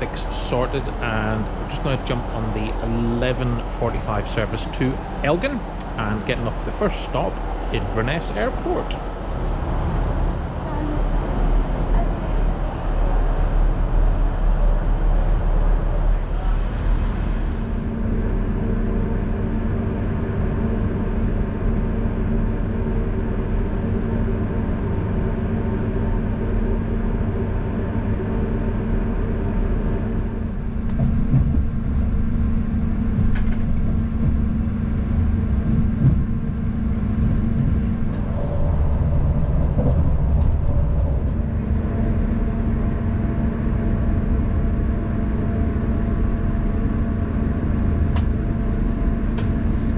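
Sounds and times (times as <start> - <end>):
diesel train rumble: 0.0 - 49.9.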